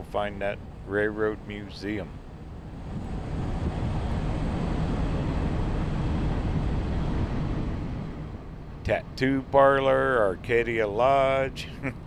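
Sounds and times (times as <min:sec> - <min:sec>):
vehicle road and wind noise: 0:00.0 - 0:12.0.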